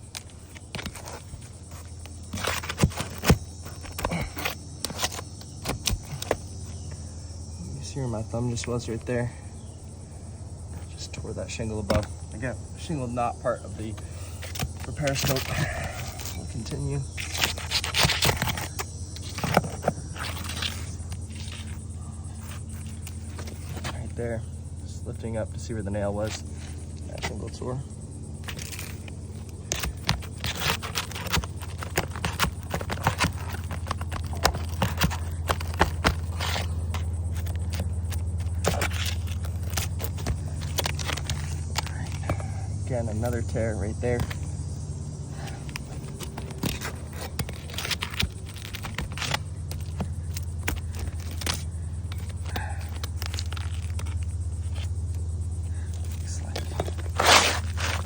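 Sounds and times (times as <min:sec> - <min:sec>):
roof shingle scraping and cracking: 0:00.0 - 0:09.4, 0:10.6 - 0:24.5, 0:25.1 - 0:58.0
low steady hum: 0:00.0 - 0:58.0.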